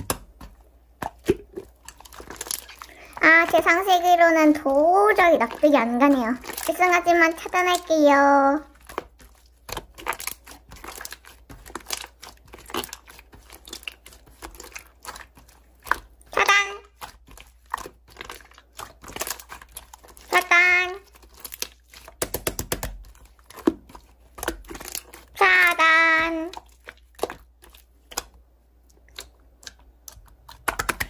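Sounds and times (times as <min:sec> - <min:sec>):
slime crackling and popping: 0:00.0 - 0:28.4, 0:29.0 - 0:31.0.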